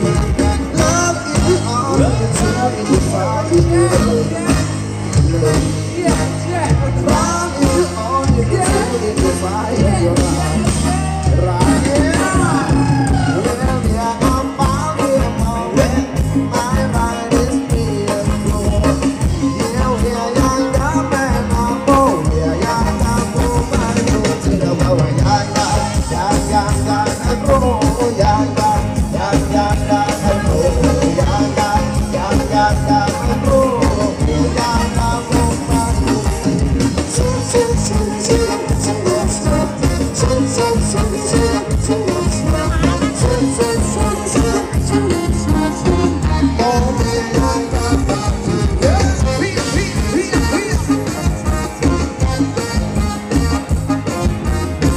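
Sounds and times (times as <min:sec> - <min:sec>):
live band dance music: 0:00.0 - 0:54.9.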